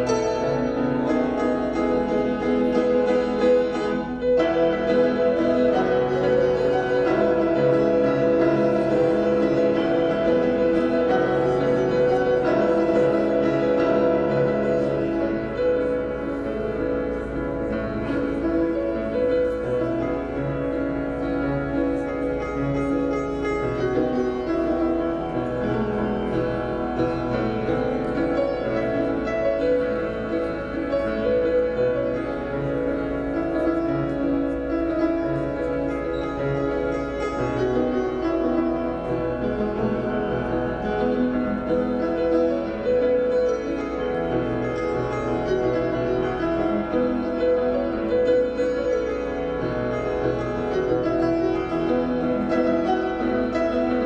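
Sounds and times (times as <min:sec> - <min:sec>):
upright piano playing: 0:00.0 - 0:54.0.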